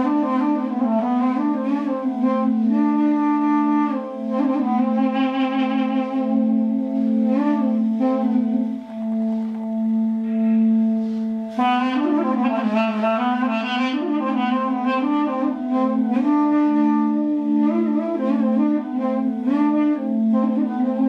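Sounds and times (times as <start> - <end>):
duduk melody: 0.0 - 21.0.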